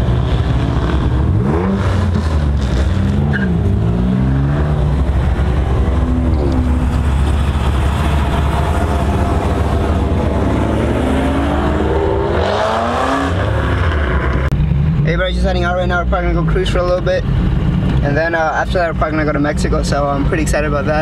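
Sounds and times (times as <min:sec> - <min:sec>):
car engine droning and revving: 0:00.0 - 0:21.0.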